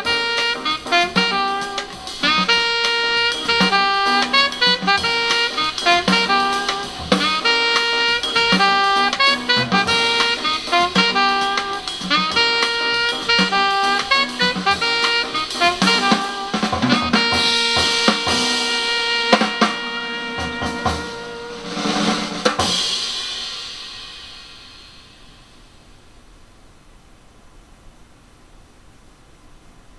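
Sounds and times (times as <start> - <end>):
jazz saxophone melody: 0.0 - 25.2
drum kit: 0.0 - 25.9.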